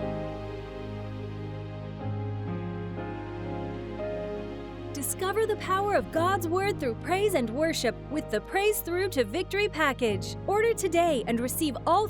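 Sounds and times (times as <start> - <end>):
slow keyboard chords: 0.0 - 11.3.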